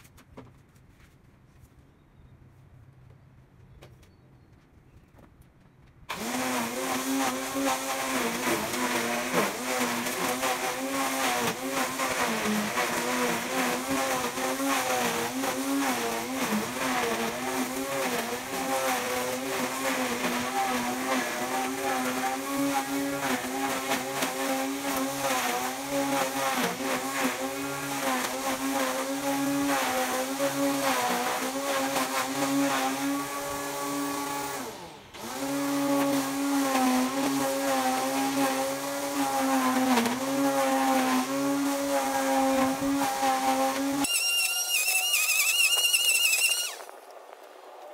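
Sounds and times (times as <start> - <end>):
grass cutter motor running: 6.1 - 46.9.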